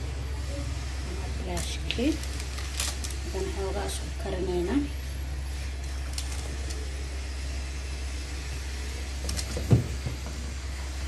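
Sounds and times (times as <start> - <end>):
kitchen appliance humming: 0.0 - 11.0.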